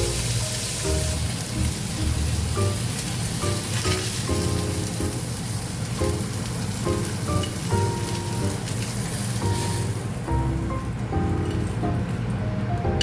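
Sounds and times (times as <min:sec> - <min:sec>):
sizzling crackle of frying: 0:00.0 - 0:13.0
soft background music: 0:00.0 - 0:13.0.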